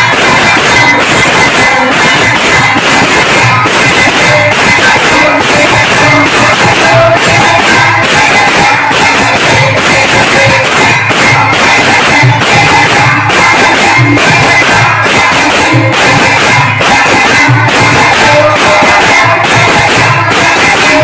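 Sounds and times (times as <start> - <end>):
loud dense music with drumbeat: 0.0 - 21.0.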